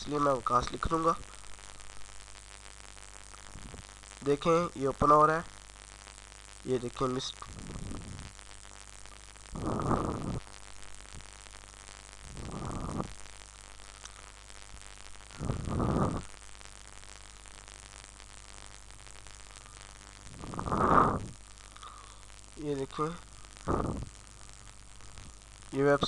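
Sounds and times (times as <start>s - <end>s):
microphone hiss and hum: 0.0s - 26.0s.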